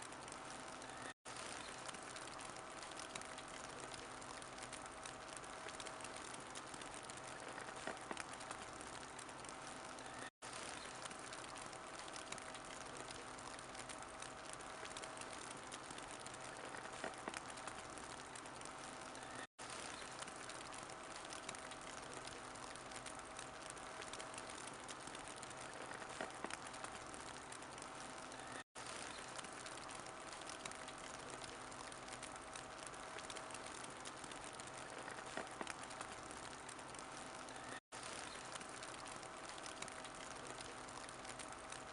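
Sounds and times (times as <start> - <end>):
fire hissing and popping: 0.0 - 41.9
wood fire crackling: 0.0 - 41.9.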